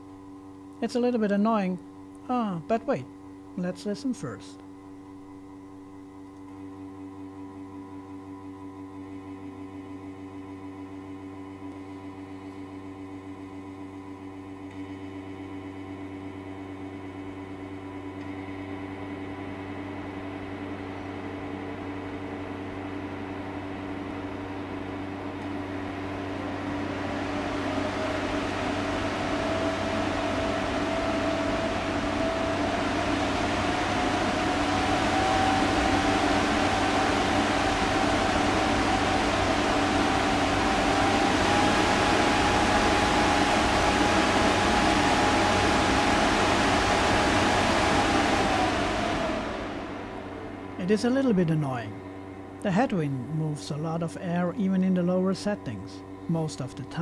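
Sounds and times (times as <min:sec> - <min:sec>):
fan air rushing: 0:00.0 - 0:06.3, 0:09.0 - 0:57.0
fan motor whine: 0:00.0 - 0:57.0.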